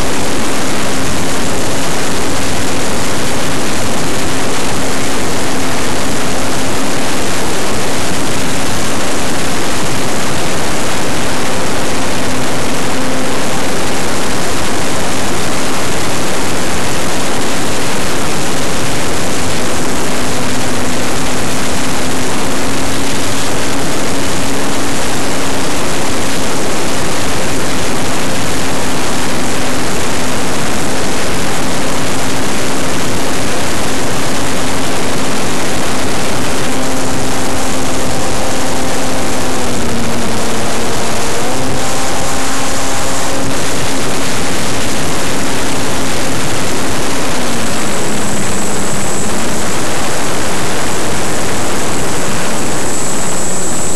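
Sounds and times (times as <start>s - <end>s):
airflow rushing: 0.0s - 53.9s
model plane motor and propeller drone: 0.0s - 53.9s.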